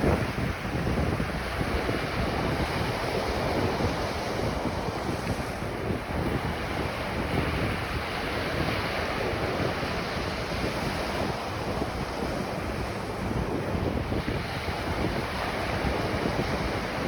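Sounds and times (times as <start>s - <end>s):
ocean waves washing onto beach: 0.0s - 17.0s
wind buffeting the microphone: 0.0s - 17.0s.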